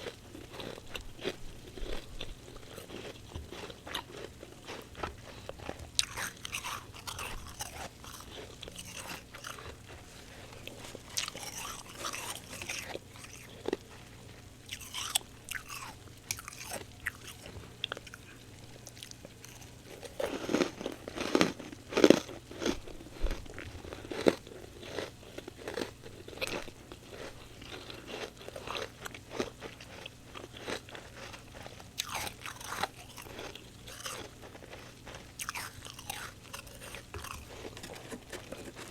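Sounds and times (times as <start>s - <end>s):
chewing icy frost crunches: 0.0s - 14.0s, 14.7s - 38.9s.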